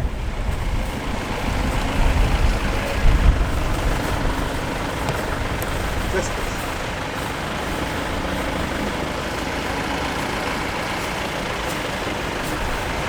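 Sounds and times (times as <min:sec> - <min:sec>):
jeep engine running: 0:00.0 - 0:13.0.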